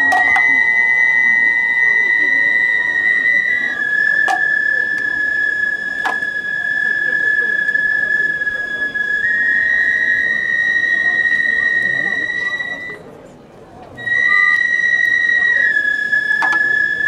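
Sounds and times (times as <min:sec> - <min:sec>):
flute long high note: 0:00.0 - 0:13.2, 0:14.0 - 0:17.0.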